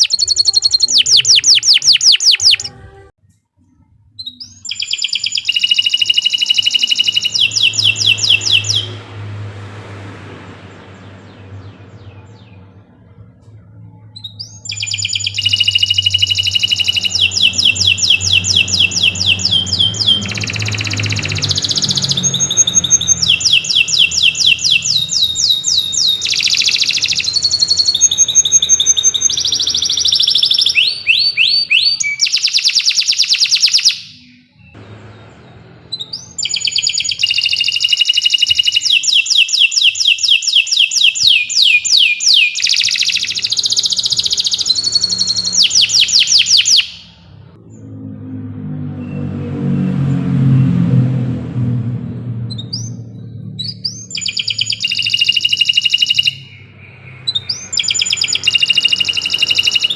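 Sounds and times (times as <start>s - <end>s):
canary singing trills: 0.0s - 3.1s, 3.8s - 48.0s, 52.0s - 59.9s.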